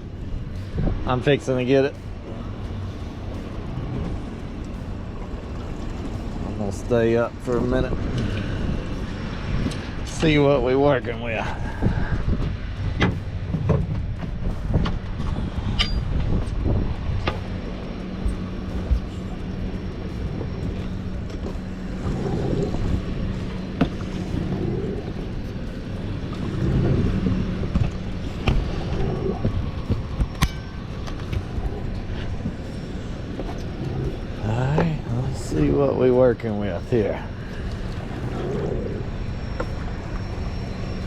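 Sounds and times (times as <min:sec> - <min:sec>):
boat engine rumbling: 0:00.0 - 0:41.0.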